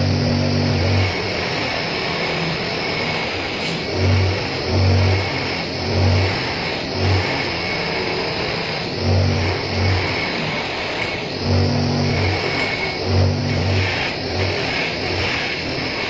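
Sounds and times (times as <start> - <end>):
buffing motor whining: 0.0 - 16.0
low hum: 0.0 - 16.0.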